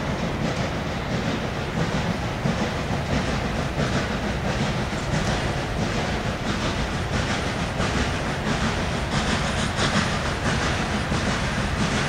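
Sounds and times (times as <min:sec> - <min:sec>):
low train rumble: 0:00.0 - 0:12.0
steam locomotive exhaust beats: 0:00.0 - 0:12.0.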